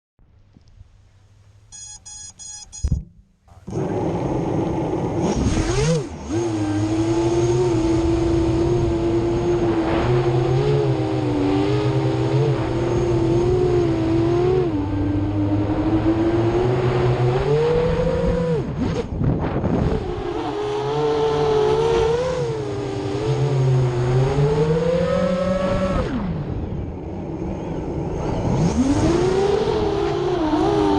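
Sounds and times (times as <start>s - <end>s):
drone motors buzzing whine: 0.5s - 30.9s.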